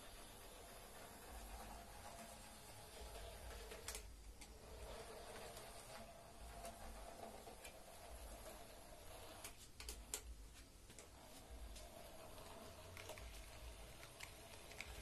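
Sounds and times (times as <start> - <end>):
model train motor hum: 0.0 - 9.6, 11.1 - 15.0.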